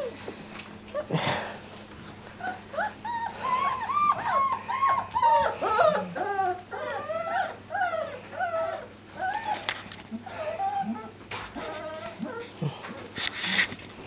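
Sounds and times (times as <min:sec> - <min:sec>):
puppies whining: 0:00.0 - 0:13.9.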